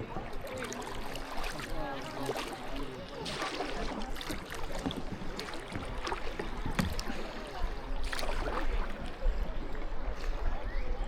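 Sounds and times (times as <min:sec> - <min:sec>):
paddle splashing: 0:00.0 - 0:10.7
water washing against hull: 0:00.0 - 0:10.7.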